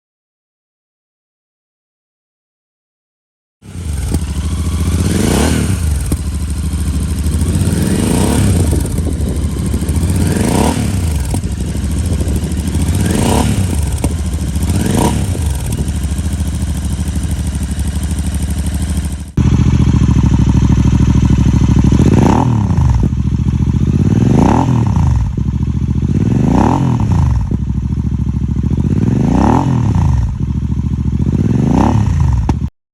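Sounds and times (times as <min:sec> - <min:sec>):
motorcycle engine revving: 0:03.6 - 0:32.7.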